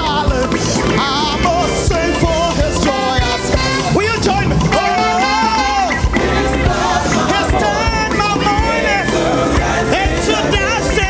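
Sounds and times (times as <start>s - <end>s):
band with steady drum beat: 0.0s - 11.0s
person singing with vibrato: 0.0s - 11.0s.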